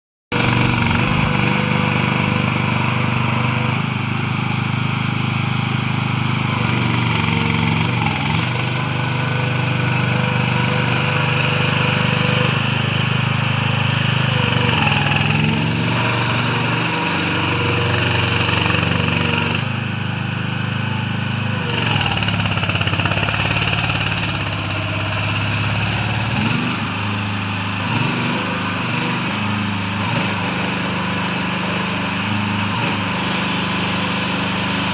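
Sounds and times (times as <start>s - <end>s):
small engine running under load: 0.3s - 34.9s.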